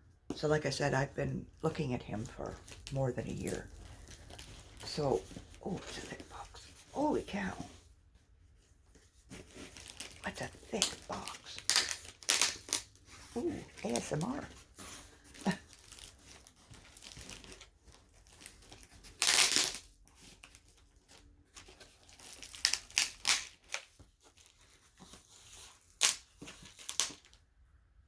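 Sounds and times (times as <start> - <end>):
packing material tearing and crinkling: 2.2 - 7.2, 9.3 - 27.4.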